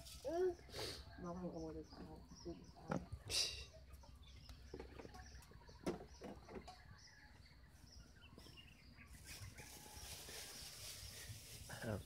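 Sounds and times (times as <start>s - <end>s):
faint bird chirps: 0.1s - 12.0s.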